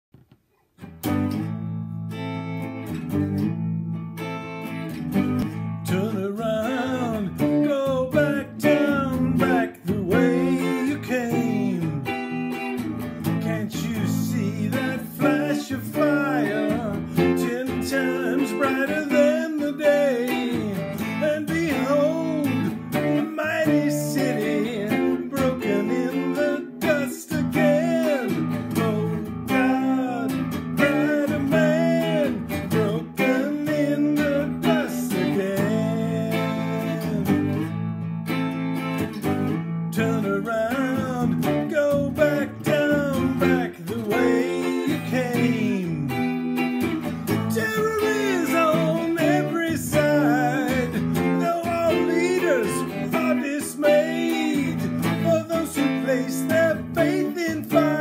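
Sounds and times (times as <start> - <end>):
electric guitar playing chords: 0.8 - 58.0.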